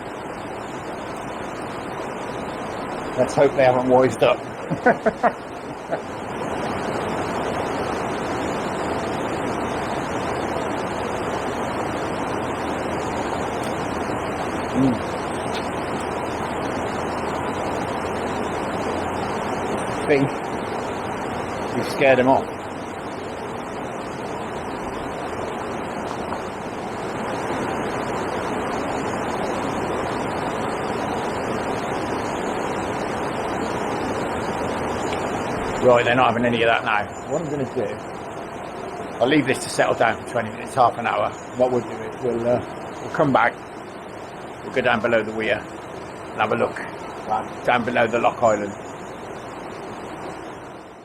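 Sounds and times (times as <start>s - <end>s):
water rushing over weir: 0.0s - 51.0s.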